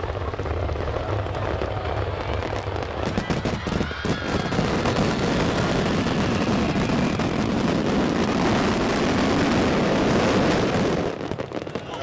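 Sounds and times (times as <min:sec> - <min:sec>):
fireworks booming and crackling: 0:00.0 - 0:12.0.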